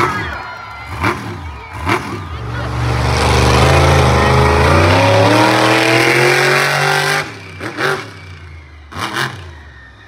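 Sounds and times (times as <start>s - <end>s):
truck engine revving hard: 0.0s - 9.8s.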